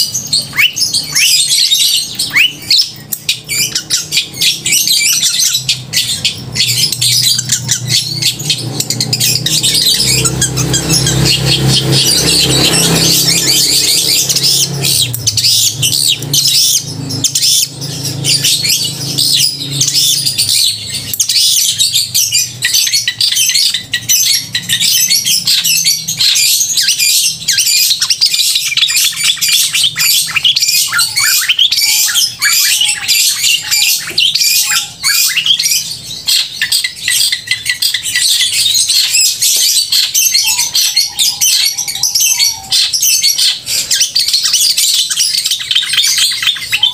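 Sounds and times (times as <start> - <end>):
shrike chattering song: 0.0 - 46.9.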